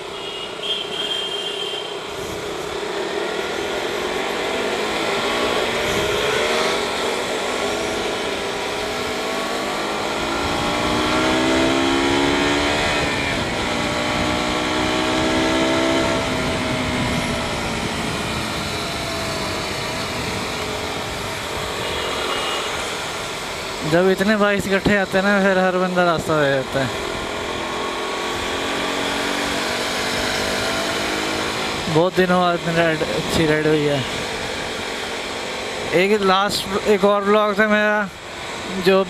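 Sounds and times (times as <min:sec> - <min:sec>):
wind and road noise: 0:00.0 - 0:39.0
motorcycle engines accelerating: 0:02.0 - 0:39.0.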